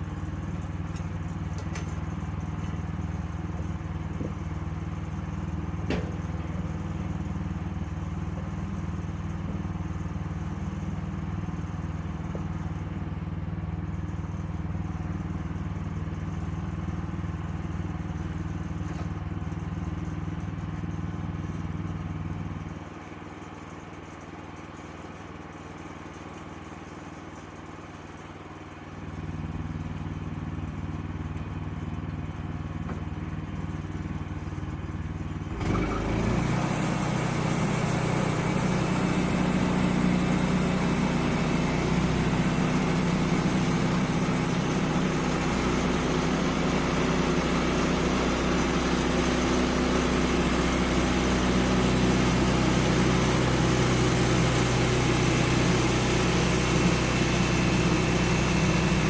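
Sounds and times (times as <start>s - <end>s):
sawmill engine humming: 0.0s - 20.6s, 28.8s - 59.0s.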